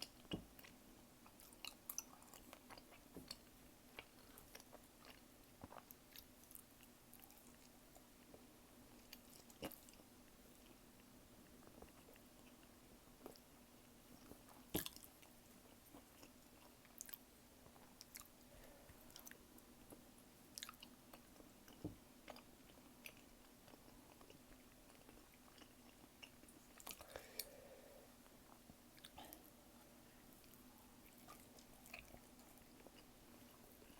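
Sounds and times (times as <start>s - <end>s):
close chewing and mouth clicks: 0.0s - 27.5s, 28.2s - 29.5s, 30.4s - 33.9s.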